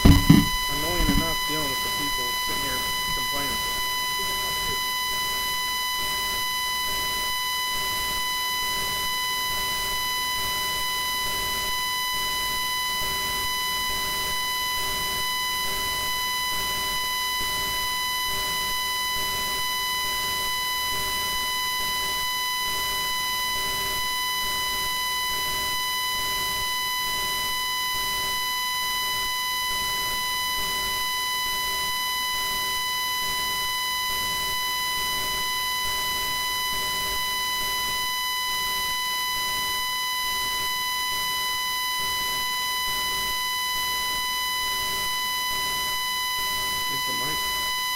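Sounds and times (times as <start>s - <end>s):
microphone feedback whine: 0.0s - 47.9s.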